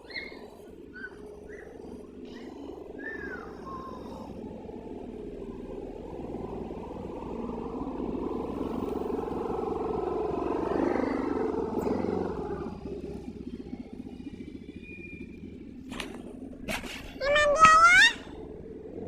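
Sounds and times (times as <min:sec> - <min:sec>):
motorcycle engine passing: 0:00.0 - 0:19.0.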